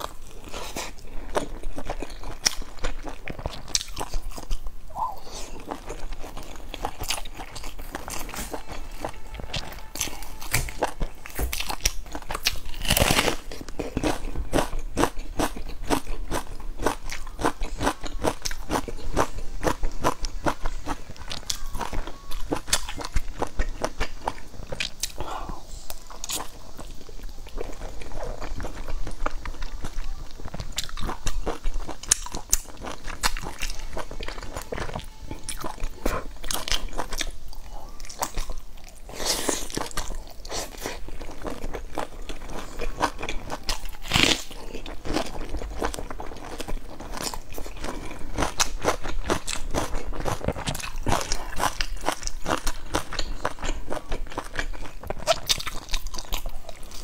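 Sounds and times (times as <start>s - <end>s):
crunchy bread chewing: 0.0s - 57.0s.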